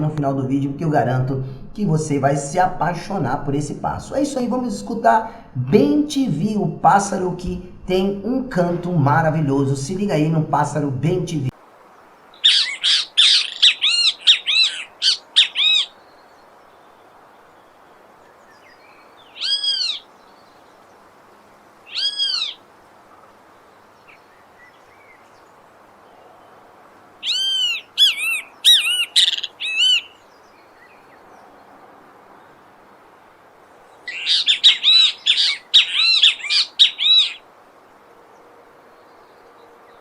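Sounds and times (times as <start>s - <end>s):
faint steady background hiss: 0.0s - 40.0s.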